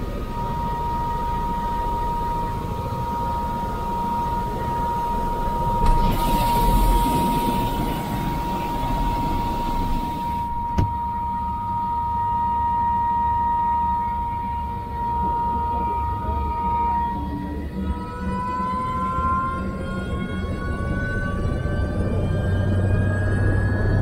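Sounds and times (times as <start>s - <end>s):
helicopter turbine whine: 0.0s - 24.0s.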